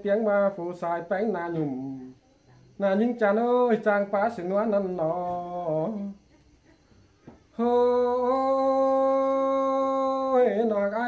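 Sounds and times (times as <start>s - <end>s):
man singing: 0.0s - 2.2s, 2.8s - 6.2s, 7.5s - 11.0s.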